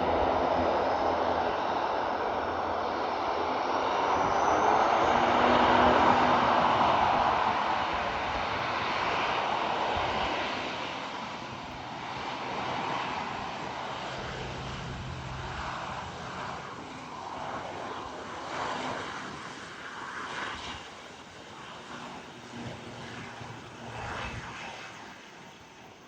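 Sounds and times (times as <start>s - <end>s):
airplane engine rush: 0.0s - 26.0s.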